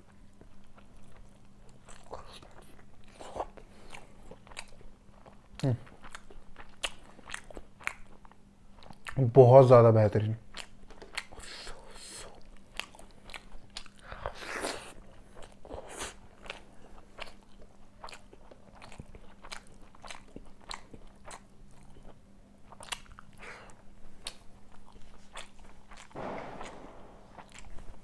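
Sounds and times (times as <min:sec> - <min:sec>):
person chewing wetly: 0:00.0 - 0:09.3, 0:10.4 - 0:26.2, 0:27.2 - 0:28.0.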